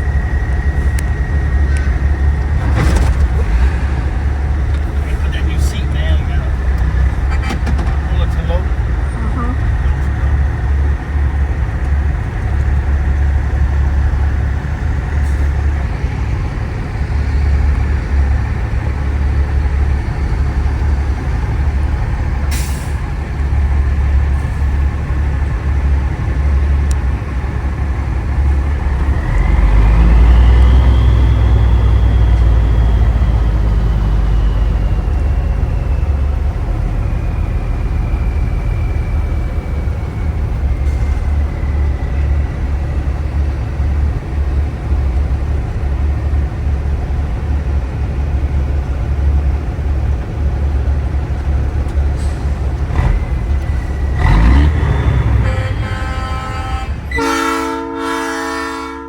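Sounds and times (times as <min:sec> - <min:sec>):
road noise inside cab: 0:00.0 - 0:59.0
truck diesel engine droning: 0:00.0 - 0:59.0.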